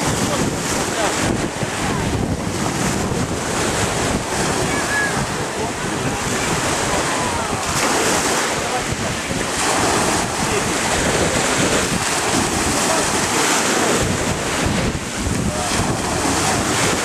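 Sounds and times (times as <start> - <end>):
faint voices: 0.0 - 17.0
sea waves washing: 0.0 - 17.0
wind buffeting microphone: 0.0 - 17.0.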